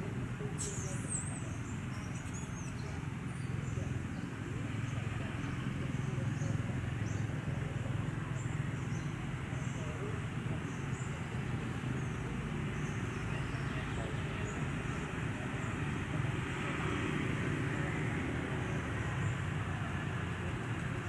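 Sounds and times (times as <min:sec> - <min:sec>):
low rumble with hiss: 0:00.0 - 0:21.0.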